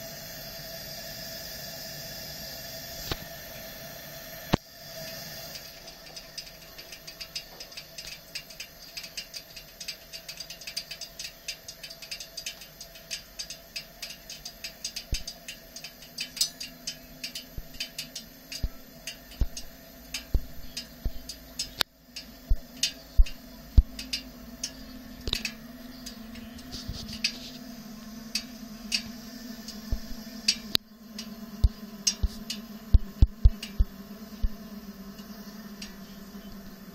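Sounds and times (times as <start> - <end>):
camp stove burner hissing: 0.0 - 36.9
burner ring metallic ticks: 2.8 - 36.9.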